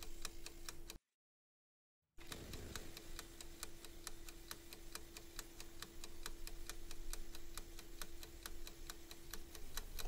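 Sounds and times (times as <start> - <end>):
fast timer ticking: 0.0 - 1.0, 2.2 - 10.0.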